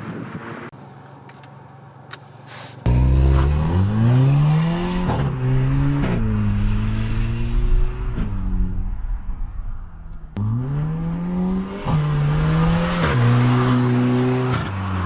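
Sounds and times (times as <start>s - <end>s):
car engine accelerating: 2.9s - 15.0s.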